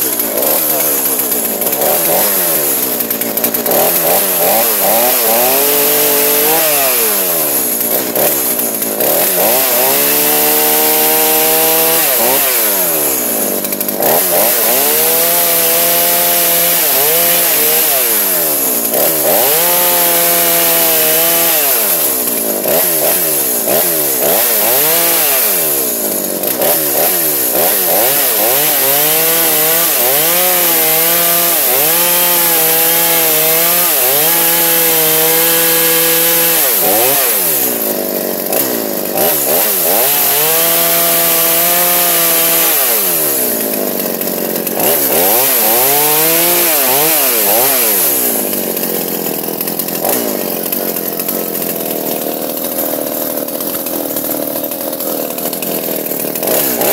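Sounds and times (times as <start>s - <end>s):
chainsaw engine revving: 0.0s - 56.9s.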